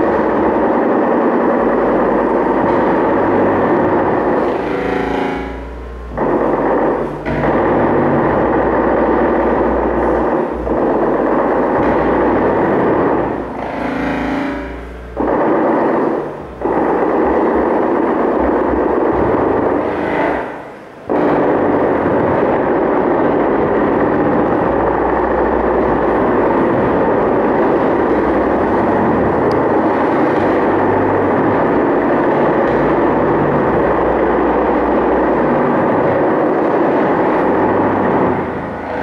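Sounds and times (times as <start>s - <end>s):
rumbling drone through loudspeakers: 0.0s - 39.0s.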